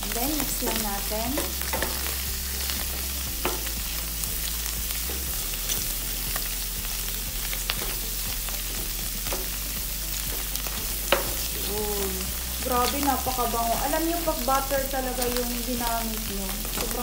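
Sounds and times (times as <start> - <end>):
mushrooms sizzling in butter: 0.0 - 17.0
spatula ticking and scraping pan: 0.2 - 17.0.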